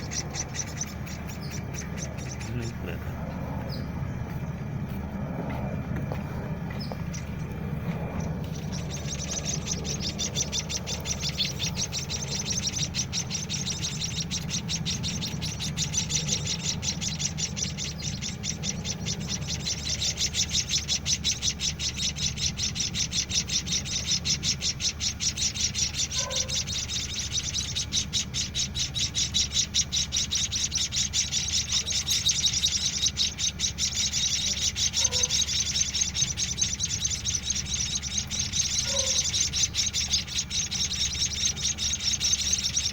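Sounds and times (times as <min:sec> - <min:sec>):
chicks chirping: 0:00.0 - 0:42.9
low steady hum: 0:00.0 - 0:42.9.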